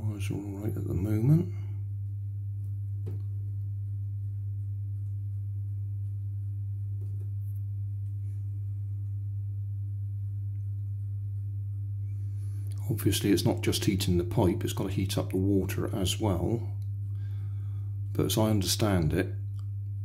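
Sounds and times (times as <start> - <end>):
fan humming: 0.0 - 19.6.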